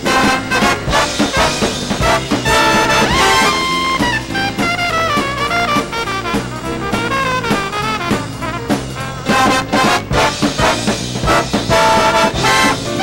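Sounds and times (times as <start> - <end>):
big band swing music with brass: 0.0 - 13.0.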